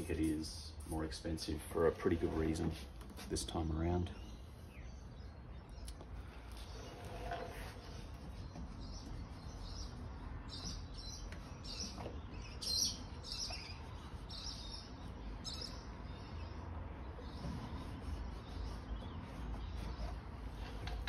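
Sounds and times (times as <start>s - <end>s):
bird chirping: 3.5s - 21.0s.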